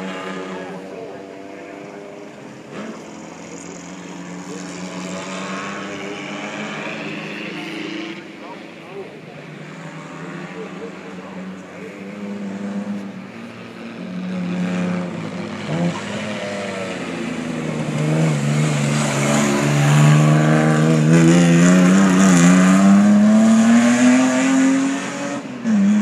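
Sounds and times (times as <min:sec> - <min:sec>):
racing car engine accelerating: 0:00.0 - 0:26.0.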